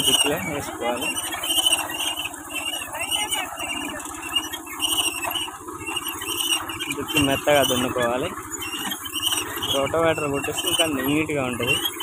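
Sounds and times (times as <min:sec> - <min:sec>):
high-pitched squeals: 0:00.0 - 0:12.0
tractor engine running: 0:00.0 - 0:12.0.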